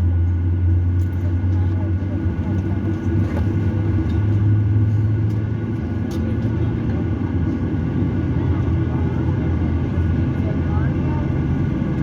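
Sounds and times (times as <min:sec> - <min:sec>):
engine rumble in cabin: 0:00.0 - 0:12.0.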